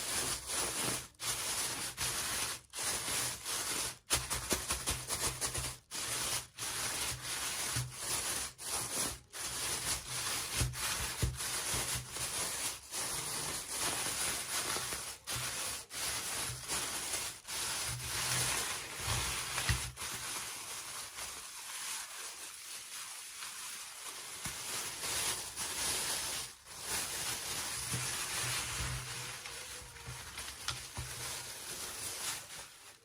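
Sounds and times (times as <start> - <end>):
hands scraping toy packaging: 0.0 - 22.6, 23.3 - 33.0.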